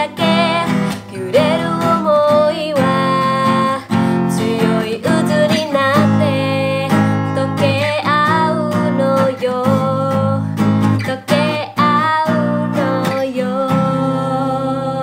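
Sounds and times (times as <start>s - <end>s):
acoustic guitar strumming: 0.0s - 15.0s
woman singing: 0.0s - 15.0s.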